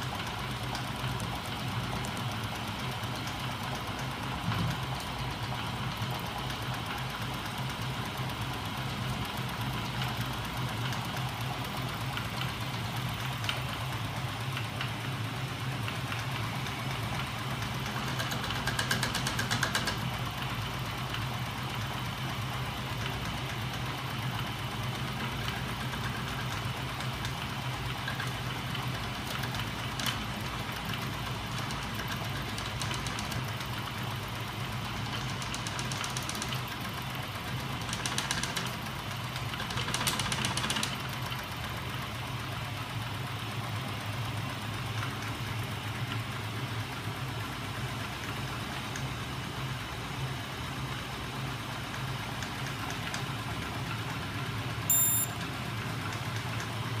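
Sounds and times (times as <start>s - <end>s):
fast mechanical rattle: 0.0s - 49.2s.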